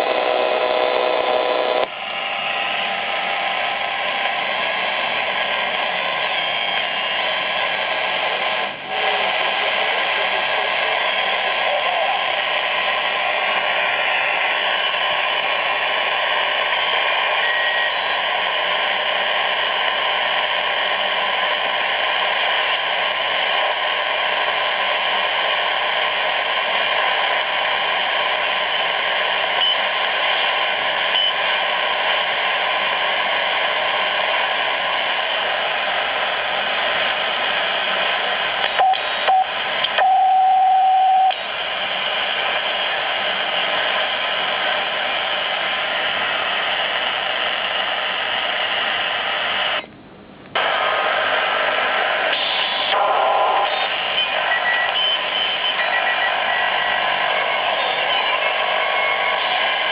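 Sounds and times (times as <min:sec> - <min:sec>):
radio static hiss: 0:00.0 - 0:49.9, 0:50.5 - 0:59.9
steady loud tone: 0:00.0 - 0:59.9.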